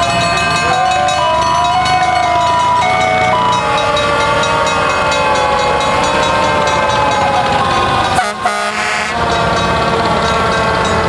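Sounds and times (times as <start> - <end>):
fire engine air horns blaring: 0.0 - 11.0.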